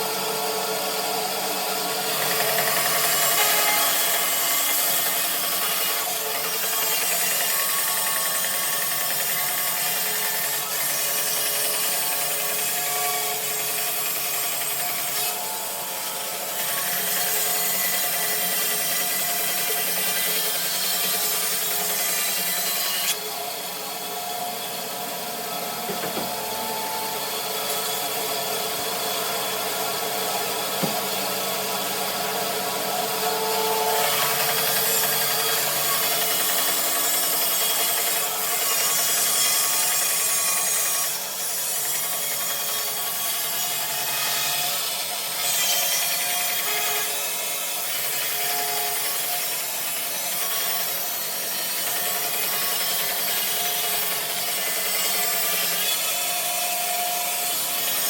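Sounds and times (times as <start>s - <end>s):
bandsaw cutting through log: 0.0s - 58.0s.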